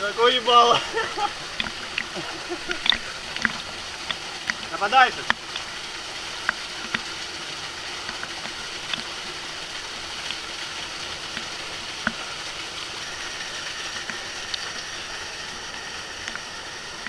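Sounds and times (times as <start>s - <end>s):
waterfall rushing: 0.0s - 15.1s
sharp drips or splashes: 0.4s - 17.0s.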